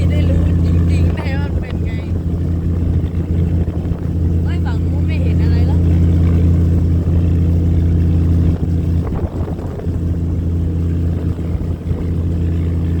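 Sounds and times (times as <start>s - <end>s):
boat engine humming: 0.0s - 13.0s
low buffeting: 0.0s - 13.0s.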